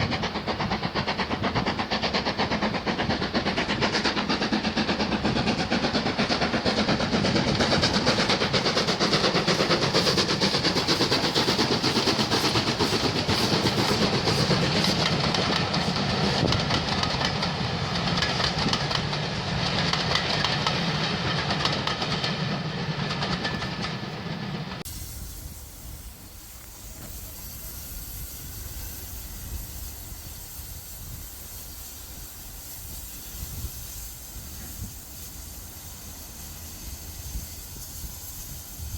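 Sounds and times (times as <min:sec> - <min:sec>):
steam hissing: 0:00.0 - 0:38.9
train rumbling on rails: 0:00.0 - 0:38.9.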